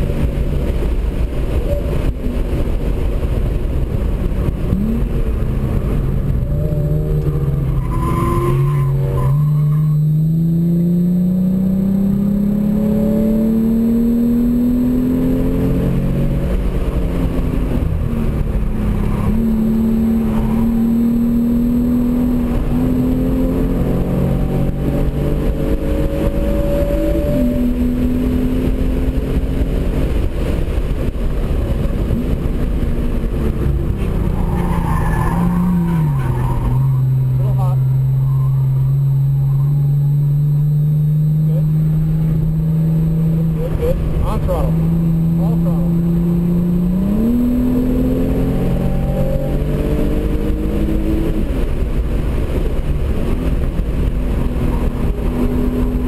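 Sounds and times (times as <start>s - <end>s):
car engine at high revs: 0.0s - 56.0s
road and wind rush: 0.0s - 56.0s.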